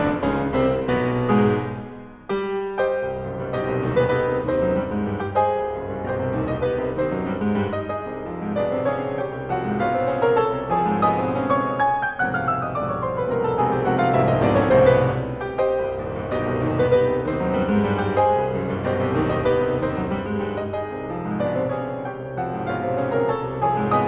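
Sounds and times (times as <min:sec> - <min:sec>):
solo piano fast passagework: 0:00.0 - 0:24.0.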